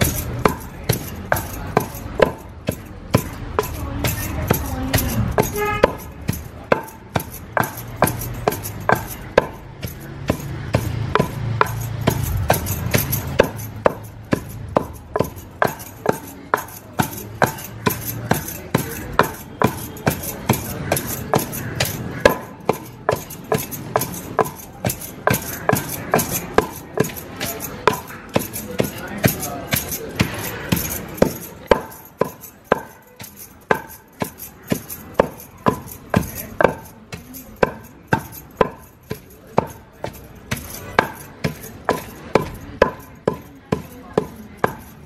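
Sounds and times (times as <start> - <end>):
food being struck by hand: 0.0 - 45.0.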